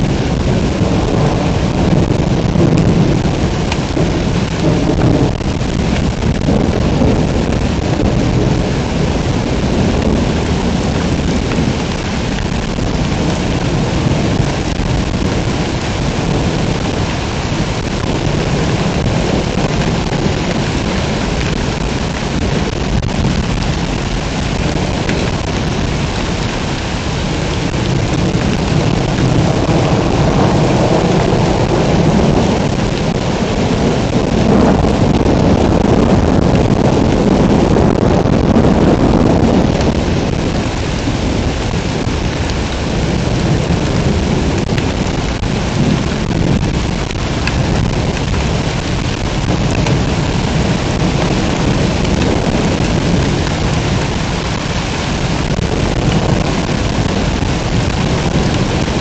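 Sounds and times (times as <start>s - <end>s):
heavy rain pouring: 0.0s - 59.0s
thunder rumbling: 0.0s - 59.0s.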